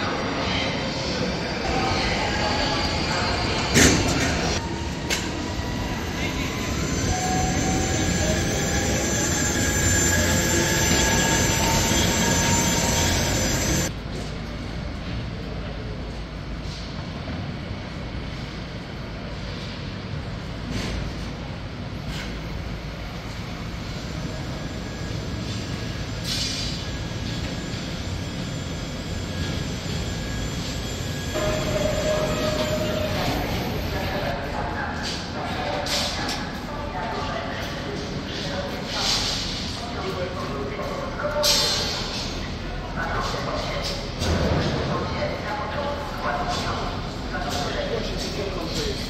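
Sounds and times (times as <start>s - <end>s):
electric train rumbling: 0.0s - 49.0s.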